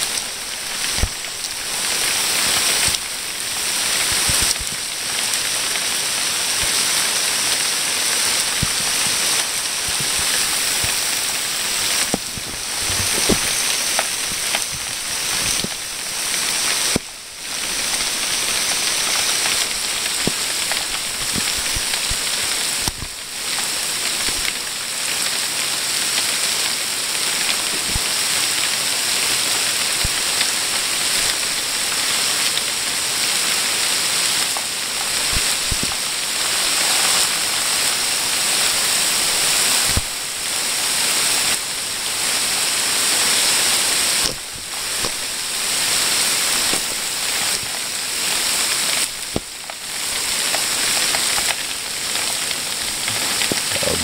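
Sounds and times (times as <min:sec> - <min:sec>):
rain falling on pavement: 0:00.0 - 0:54.0.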